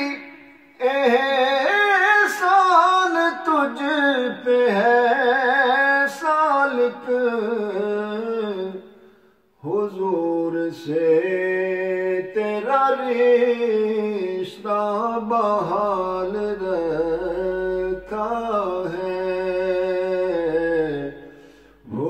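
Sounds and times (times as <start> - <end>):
man singing into a microphone: 0.0 - 9.0, 9.6 - 22.0.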